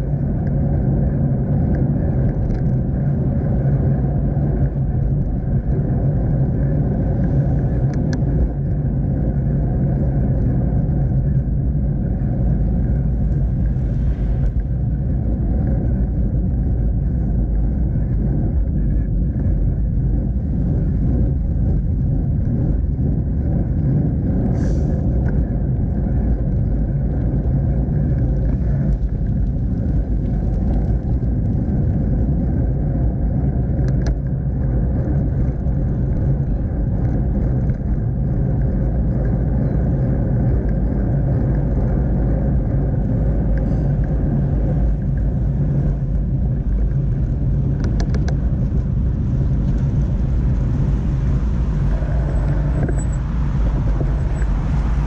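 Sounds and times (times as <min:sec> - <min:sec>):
bicycle ride low rumble: 0:00.0 - 0:55.0.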